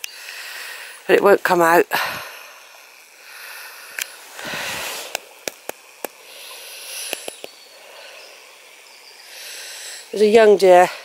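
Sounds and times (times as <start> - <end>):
breathy hiss on microphone: 0.0 - 11.0.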